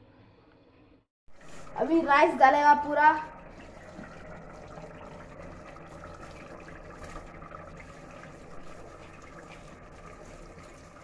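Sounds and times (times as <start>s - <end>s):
water pouring and trickling: 1.3s - 11.0s.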